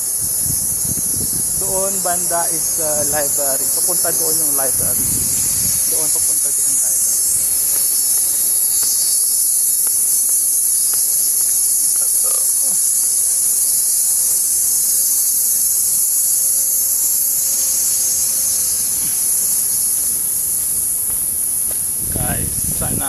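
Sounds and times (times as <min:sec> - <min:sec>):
cicadas droning: 0:00.0 - 0:23.0.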